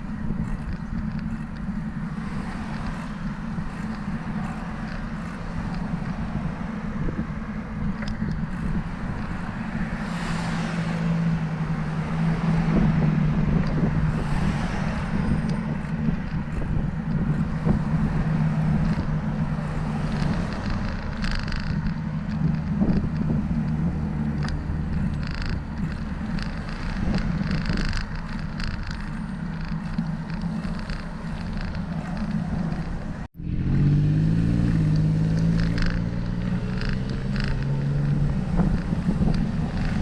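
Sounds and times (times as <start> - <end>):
steady engine hum: 0.0 - 40.0
vehicles swishing past: 0.0 - 40.0
wind rushing over microphone: 0.0 - 40.0.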